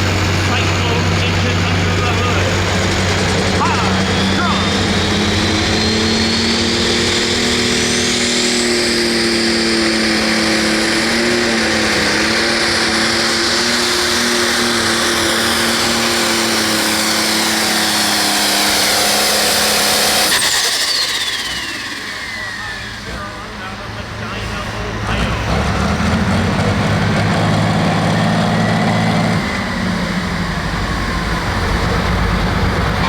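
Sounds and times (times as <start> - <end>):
pulling tractor diesel engine: 0.0 - 33.0.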